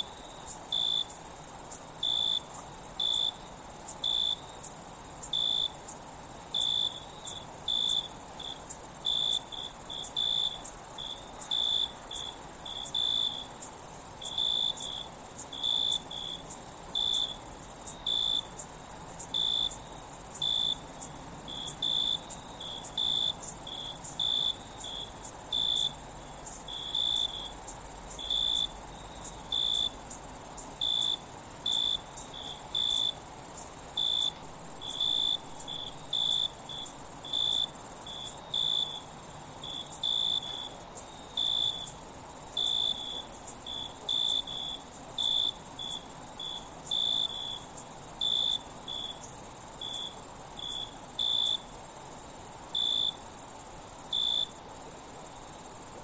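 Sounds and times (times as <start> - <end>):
high-pitched cricket trill: 0.0 - 56.0.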